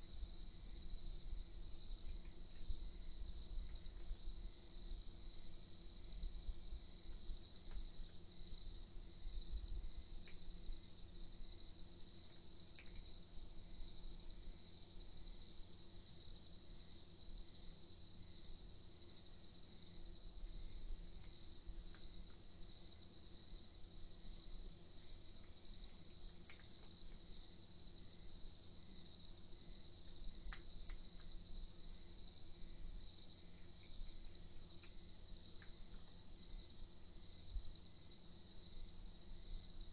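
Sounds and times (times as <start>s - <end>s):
crickets chirping: 0.0s - 39.9s
faint low hum: 0.0s - 39.9s.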